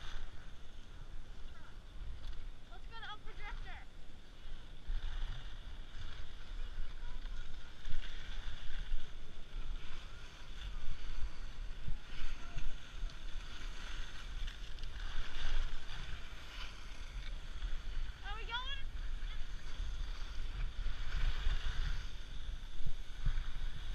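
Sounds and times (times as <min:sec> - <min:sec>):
skis scraping over snow: 0:00.0 - 0:23.9.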